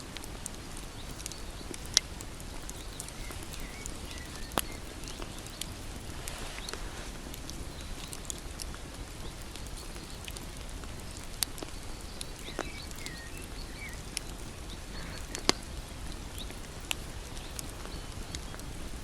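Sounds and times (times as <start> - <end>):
rumble of flames: 0.0 - 19.0
wood crackling and popping: 0.0 - 19.0.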